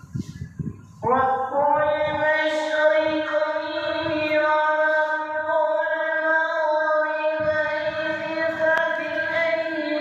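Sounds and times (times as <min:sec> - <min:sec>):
person reciting melodically: 0:00.9 - 0:10.0.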